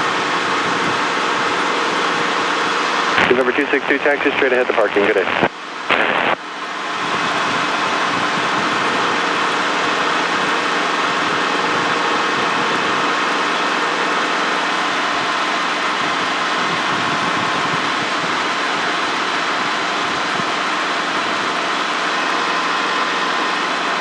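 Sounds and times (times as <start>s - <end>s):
helicopter engine and rotor: 0.0s - 24.0s.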